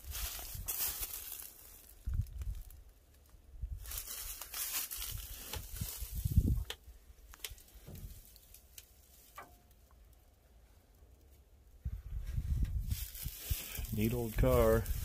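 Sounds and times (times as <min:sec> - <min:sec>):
dry grass rustling: 0:00.0 - 0:15.0.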